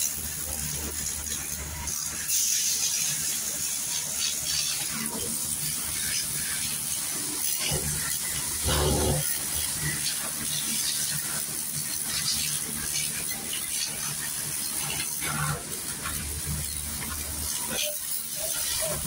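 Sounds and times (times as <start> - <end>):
water spraying: 0.0 - 19.0.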